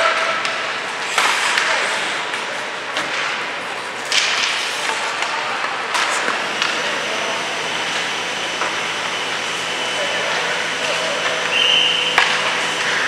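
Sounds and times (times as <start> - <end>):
skates scraping ice: 0.0 - 13.0.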